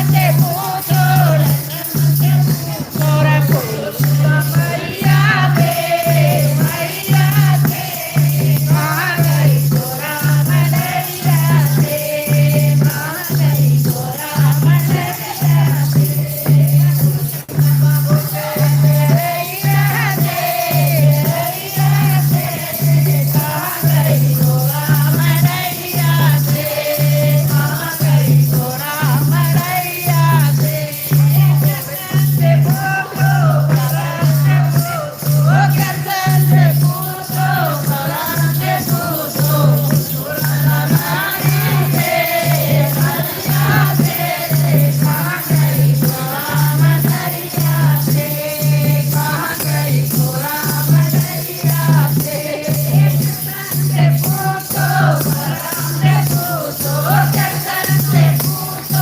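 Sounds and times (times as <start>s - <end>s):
rattling shaken percussion: 0.0s - 59.0s
voices singing a melody: 0.0s - 59.0s.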